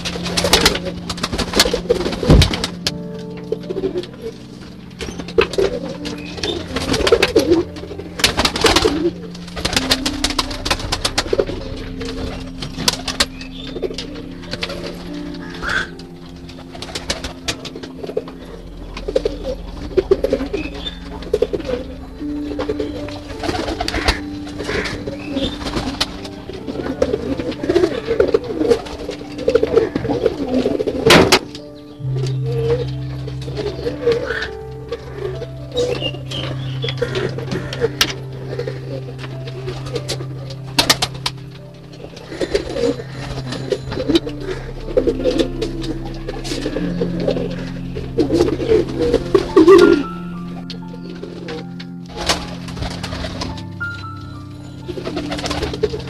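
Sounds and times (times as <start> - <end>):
pigeons cooing: 5.0 - 54.0.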